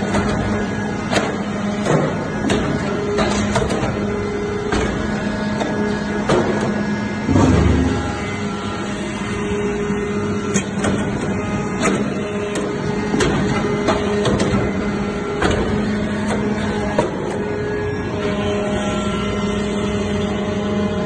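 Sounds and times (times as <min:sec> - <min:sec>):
hydraulic pump humming: 0:00.0 - 0:21.0.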